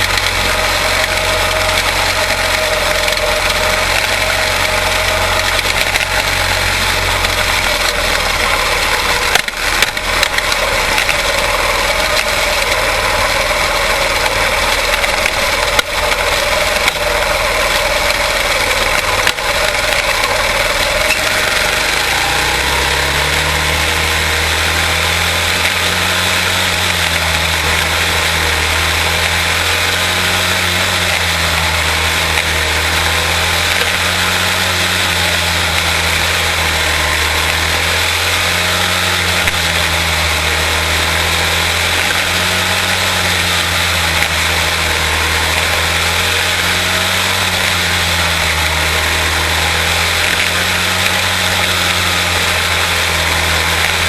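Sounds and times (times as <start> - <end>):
race car engines running: 0.0 - 54.0.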